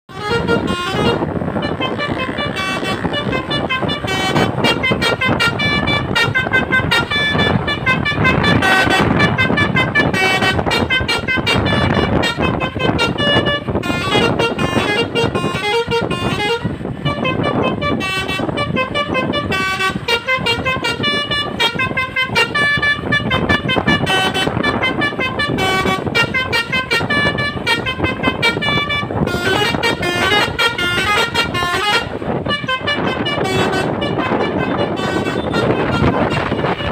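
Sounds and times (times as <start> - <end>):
musical bus horn playing a tune: 0.1 - 36.9.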